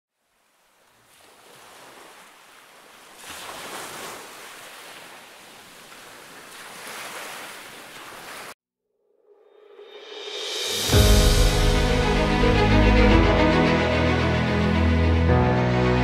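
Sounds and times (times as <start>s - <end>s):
ocean surf breaking: 0.6s - 8.6s, 10.4s - 15.9s.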